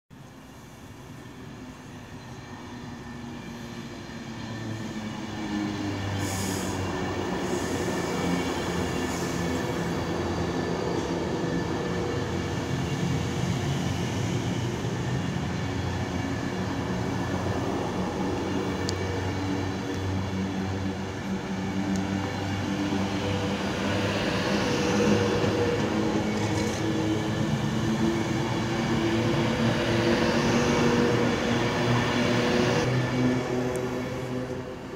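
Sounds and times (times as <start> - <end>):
train wheels rolling on rail: 0.3 - 34.9.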